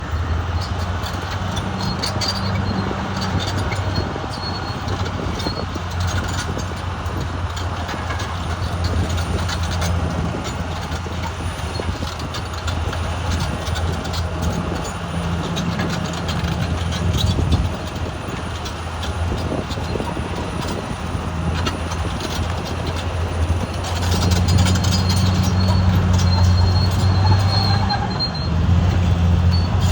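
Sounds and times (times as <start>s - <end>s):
bulldozer diesel engine droning: 0.0s - 29.9s.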